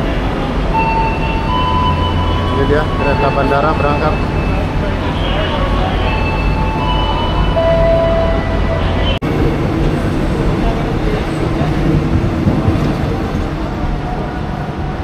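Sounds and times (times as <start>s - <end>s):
crowd chatter: 0.0s - 15.0s
electric train hum and whine: 0.0s - 15.0s.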